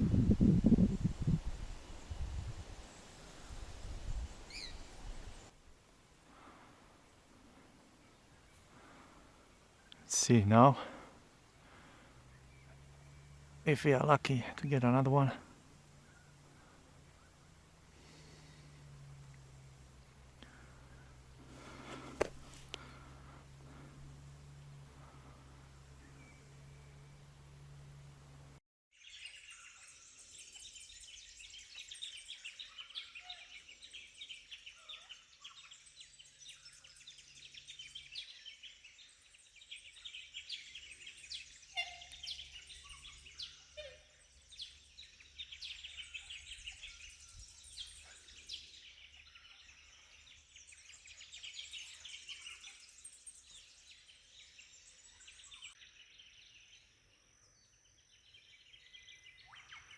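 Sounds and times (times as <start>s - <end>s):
birds chirping and trilling: 4.3s - 5.5s, 6.3s - 28.1s, 29.0s - 59.9s.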